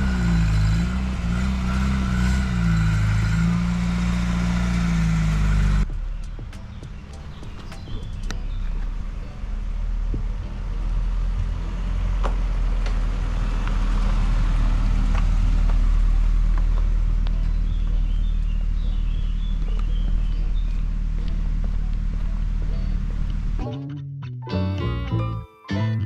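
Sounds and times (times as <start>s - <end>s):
car engine running: 0.0s - 23.8s.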